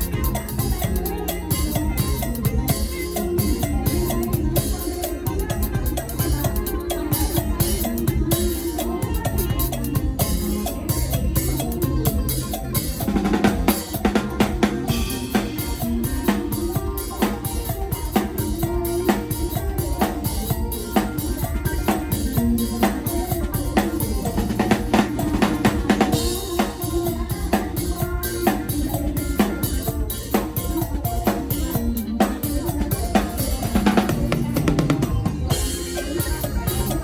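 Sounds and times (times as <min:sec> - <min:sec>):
drum kit beat: 0:00.0 - 0:37.0
live band bass and melody: 0:00.0 - 0:37.0.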